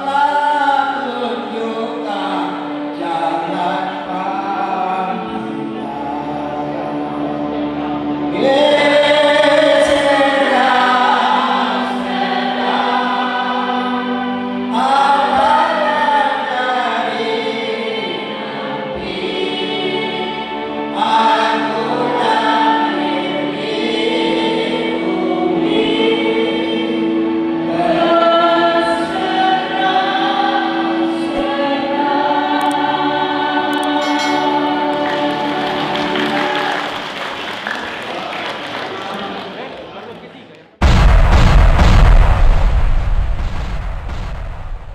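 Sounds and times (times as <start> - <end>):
choir singing a hymn: 0.0 - 37.2.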